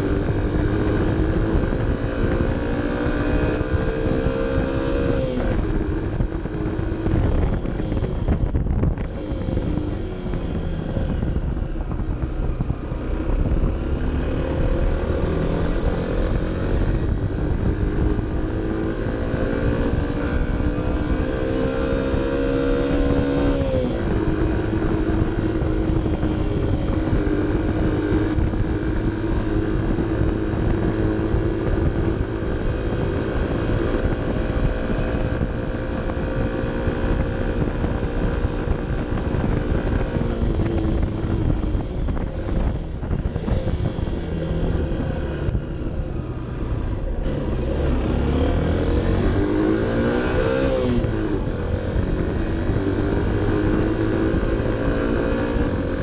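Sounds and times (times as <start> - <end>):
motorcycle engine under load: 0.0 - 56.0
wind and road noise: 0.0 - 56.0.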